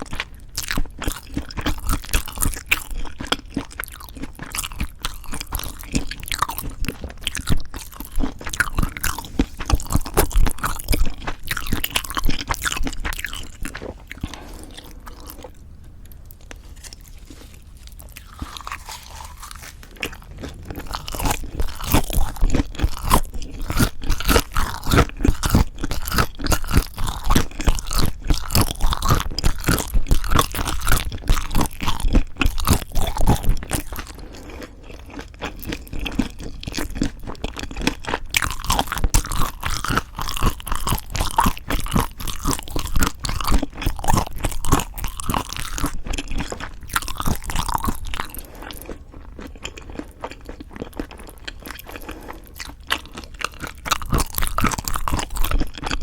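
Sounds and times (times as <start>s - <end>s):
crunchy chewing of food: 0.0s - 56.0s.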